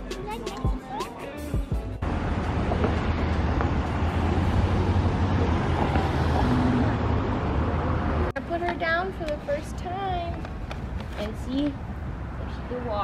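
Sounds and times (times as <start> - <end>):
traffic rumble: 1.6 - 13.0.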